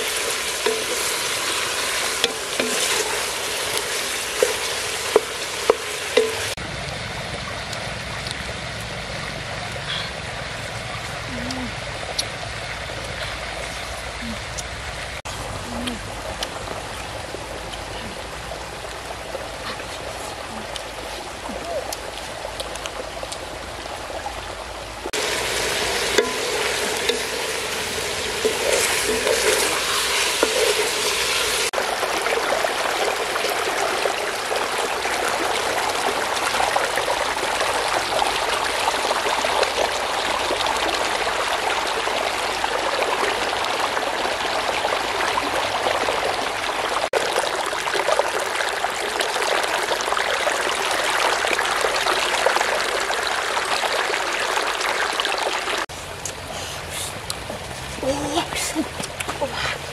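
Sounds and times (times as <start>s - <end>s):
stream splashing over rocks: 0.0s - 59.9s.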